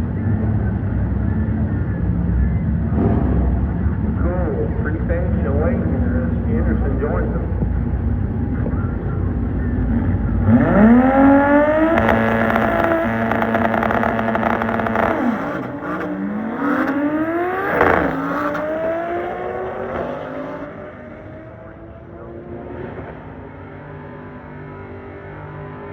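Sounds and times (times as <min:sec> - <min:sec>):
drag racing car accelerating: 0:00.0 - 0:25.9.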